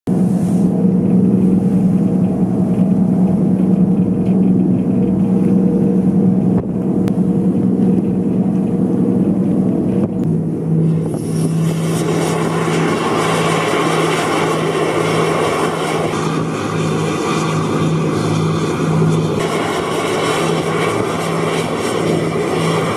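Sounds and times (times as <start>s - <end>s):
boat engine droning: 0.1s - 22.9s.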